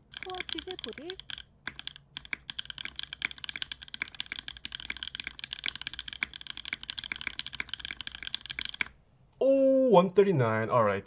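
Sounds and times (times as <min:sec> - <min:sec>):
fast typing on mechanical keyboard: 0:00.0 - 0:09.0.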